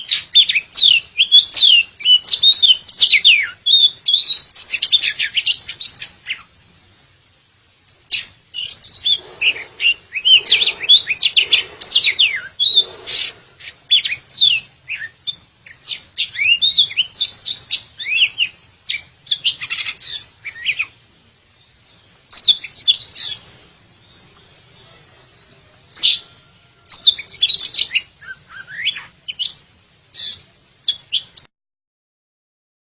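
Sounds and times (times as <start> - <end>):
bird singing whistles and chirps: 0.0 - 7.1, 8.1 - 31.5.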